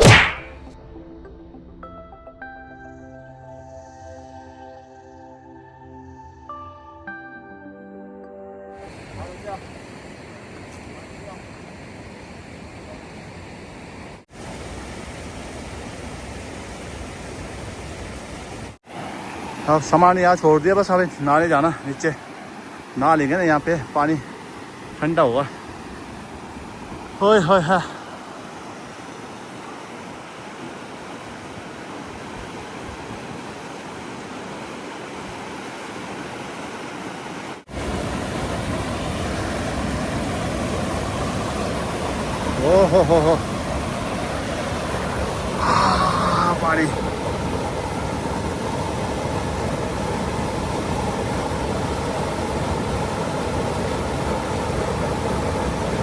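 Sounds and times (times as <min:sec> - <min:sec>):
running water rushing: 0:08.8 - 0:56.0.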